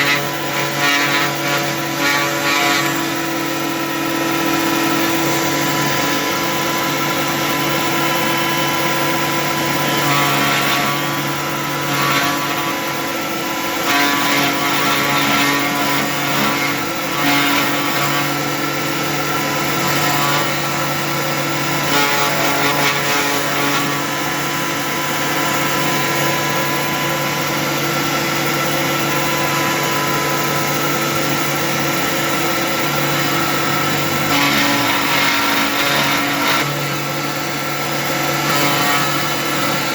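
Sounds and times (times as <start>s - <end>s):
rough router cutting noise: 0.0s - 39.9s
vacuum motor drone with whine: 0.0s - 39.9s.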